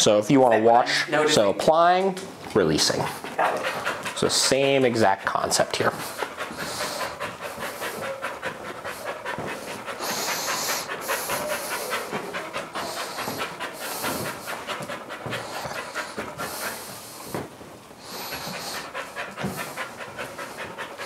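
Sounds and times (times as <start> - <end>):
dog panting rapidly: 2.7 - 21.0.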